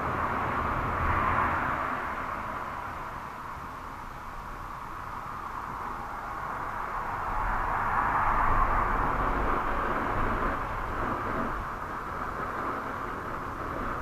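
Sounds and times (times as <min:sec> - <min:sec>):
wind gust through bushes: 0:00.0 - 0:14.0.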